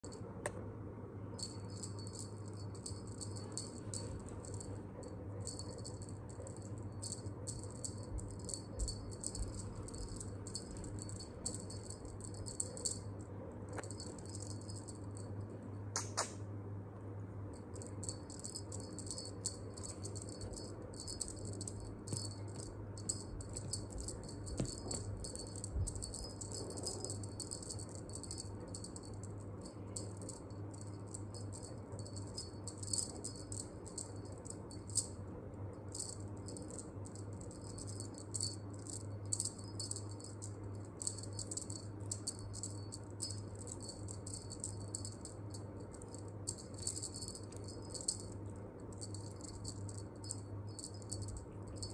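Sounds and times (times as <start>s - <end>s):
low steady hum: 0.0s - 51.9s
jingling cat toy rattling: 1.4s - 15.4s, 17.6s - 35.2s, 35.8s - 51.9s.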